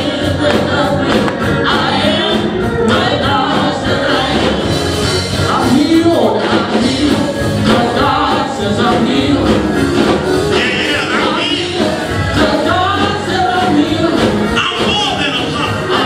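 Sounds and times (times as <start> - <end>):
bass notes: 0.0 - 16.0
voices singing gospel: 0.0 - 16.0.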